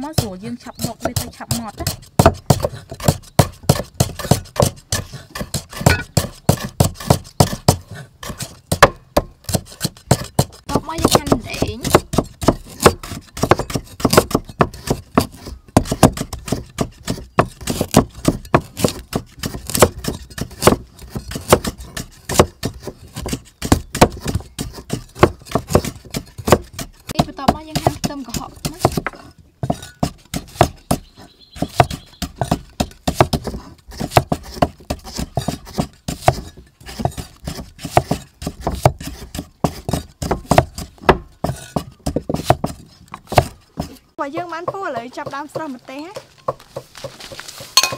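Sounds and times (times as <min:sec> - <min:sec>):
cleaver chopping on wooden block: 0:00.0 - 0:47.9.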